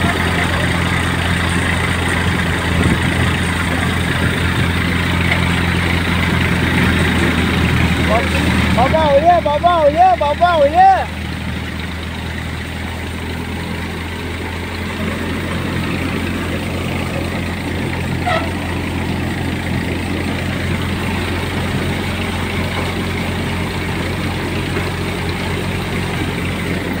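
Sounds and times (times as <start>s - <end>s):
threshing machine droning: 0.0s - 27.0s.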